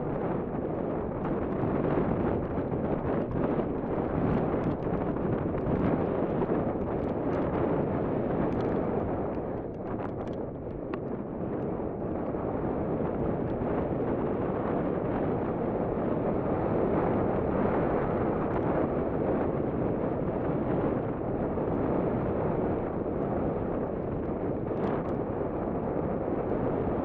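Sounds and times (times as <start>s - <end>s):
wind noise on microphone: 0.0s - 27.0s.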